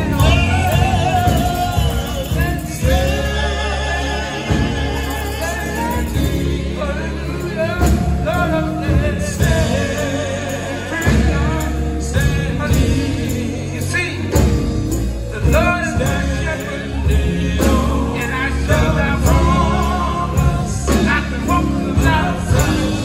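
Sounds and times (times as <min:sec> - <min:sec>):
drums: 0:00.0 - 0:23.0
electric bass: 0:00.0 - 0:23.0
male vocal quartet singing: 0:00.0 - 0:23.0.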